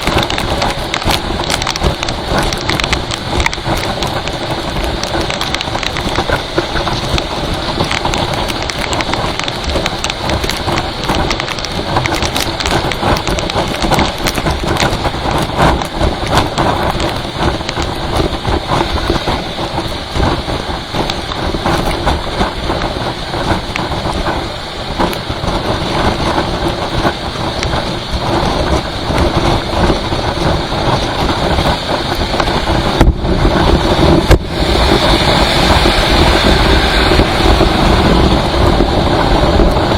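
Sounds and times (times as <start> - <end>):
rain pattering on vehicle: 0.0 - 39.9
vehicle and road rumble: 0.0 - 39.9.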